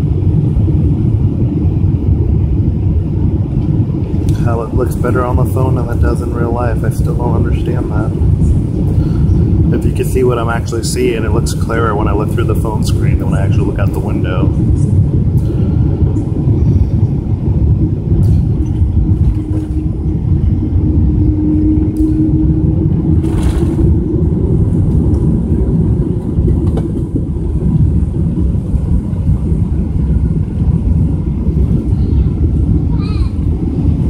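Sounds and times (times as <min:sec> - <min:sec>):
airplane engines rumbling in cabin: 0:00.0 - 0:34.0
rising hum: 0:00.0 - 0:34.0.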